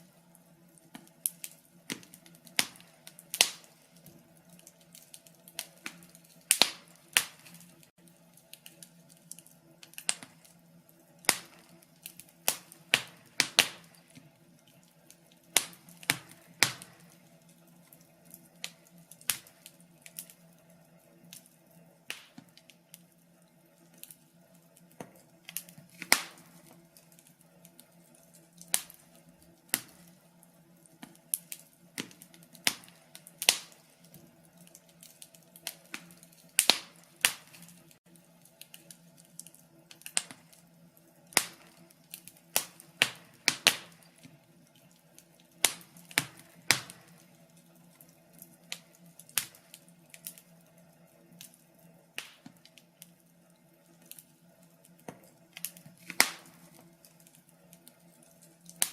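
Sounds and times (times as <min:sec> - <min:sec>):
faint steady hum: 0:00.0 - 0:58.9
wood fire crackling and popping: 0:00.0 - 0:58.9.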